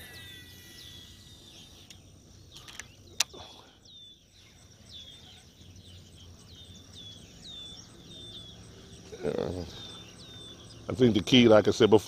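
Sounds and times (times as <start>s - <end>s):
insect ticking: 0.0s - 11.9s
bird chirping: 0.0s - 12.0s.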